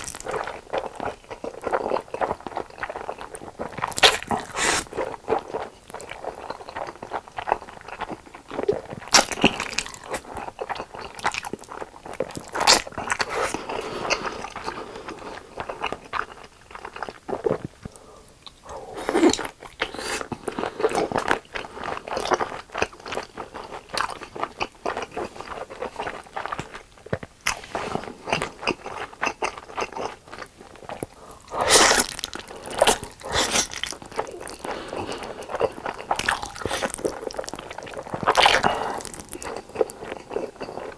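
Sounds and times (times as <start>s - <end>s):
person biting and chewing: 0.0s - 40.9s.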